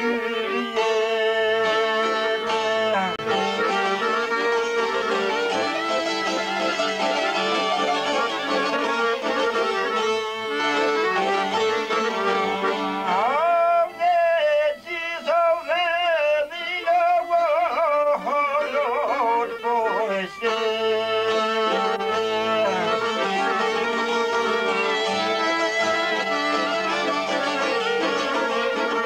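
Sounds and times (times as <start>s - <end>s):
high melody with trills: 0.0s - 15.2s, 18.1s - 29.0s
folk ensemble playing: 0.0s - 29.0s.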